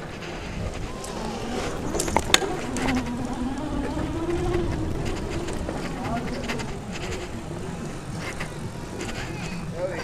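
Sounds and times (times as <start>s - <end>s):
wind rumble on microphone: 0.0s - 10.0s
electric bike motor whining: 0.3s - 10.0s.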